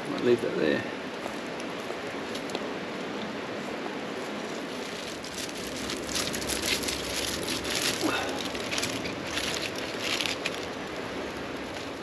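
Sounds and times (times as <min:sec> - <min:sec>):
campfire coals crackling: 0:00.0 - 0:12.0.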